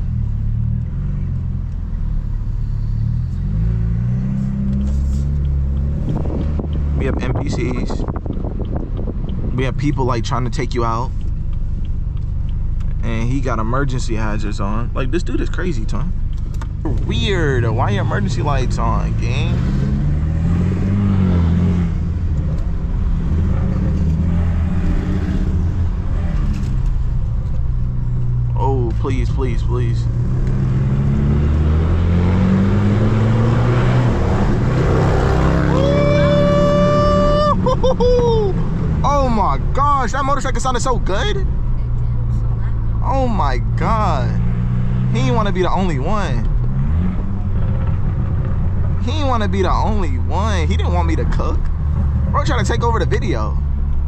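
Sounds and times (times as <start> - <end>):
car engine drone from inside cabin: 0.0 - 54.0.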